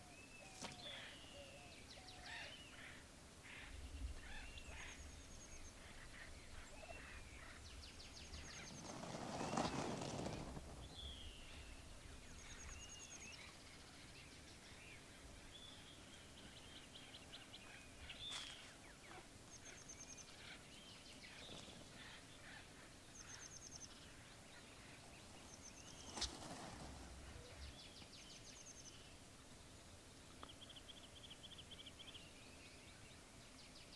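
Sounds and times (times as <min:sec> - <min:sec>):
small birds calling: 0:00.0 - 0:29.2.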